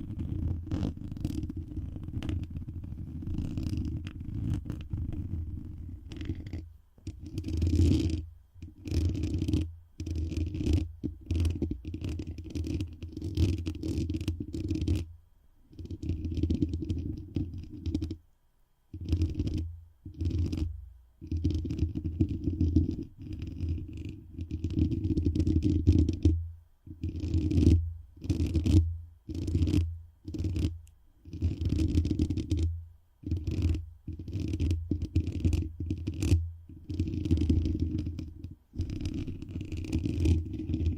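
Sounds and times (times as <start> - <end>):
scraping against a microphone: 0.0 - 15.1, 15.8 - 18.2, 19.0 - 40.9.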